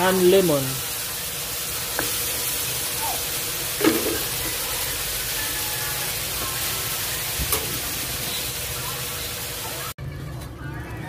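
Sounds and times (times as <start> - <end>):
shrimp sizzling in a pan: 0.0 - 10.0.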